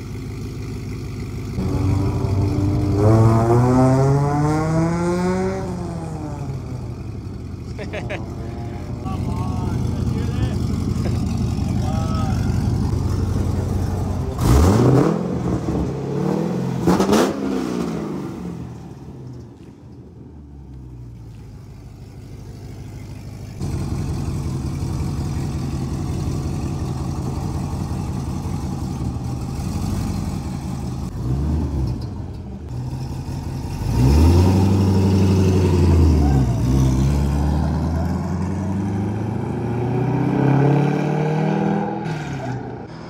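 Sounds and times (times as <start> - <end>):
car engine revving and idling: 0.0 - 43.0.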